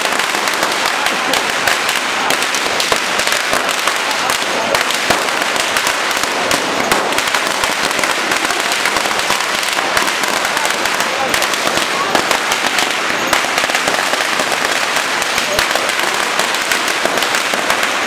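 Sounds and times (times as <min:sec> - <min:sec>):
firecrackers crackling: 0:00.0 - 0:18.0.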